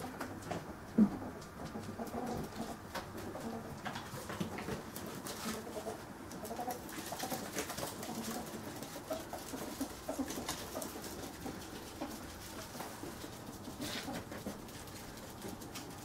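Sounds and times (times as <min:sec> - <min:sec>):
ferrets clucking: 0:00.0 - 0:16.0.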